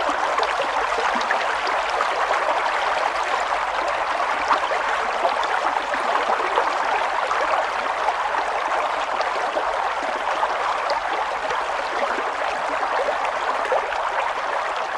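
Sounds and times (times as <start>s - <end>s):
running water: 0.0s - 14.9s.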